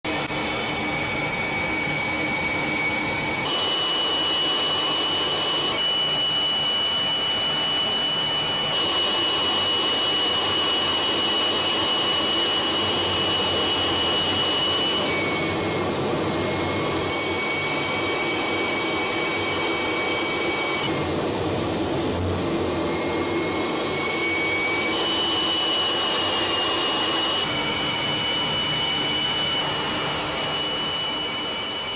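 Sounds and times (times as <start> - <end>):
jet engines rushing and whining: 0.1 - 31.9.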